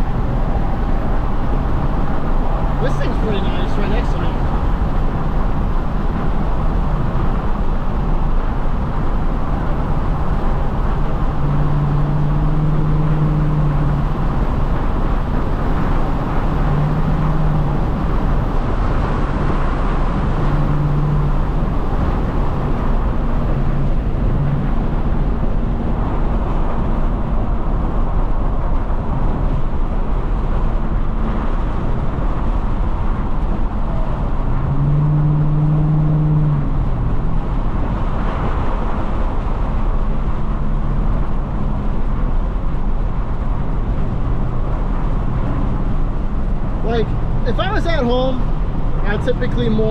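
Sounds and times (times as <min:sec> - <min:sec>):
car engine rumble: 0:00.0 - 0:49.9
road noise: 0:00.0 - 0:49.9.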